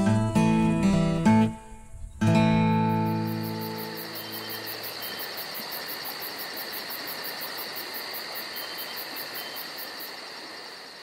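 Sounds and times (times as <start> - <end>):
insects buzzing trill: 0.1 - 11.0
insects high pulsing chirp: 0.1 - 11.0.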